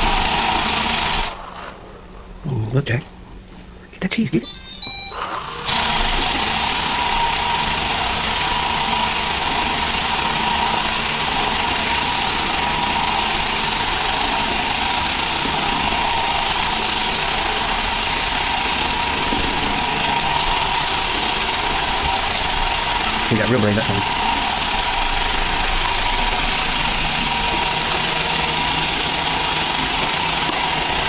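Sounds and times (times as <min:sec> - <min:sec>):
robot vacuum motor whirring: 0:00.0 - 0:01.8, 0:05.1 - 0:31.0.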